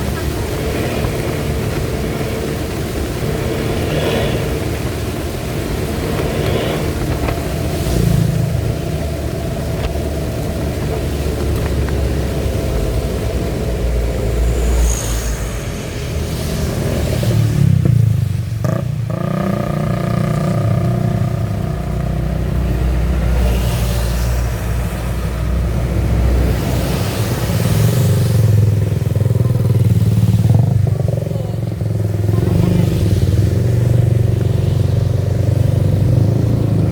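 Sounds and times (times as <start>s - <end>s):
vehicle engine rumbling: 0.0s - 36.9s.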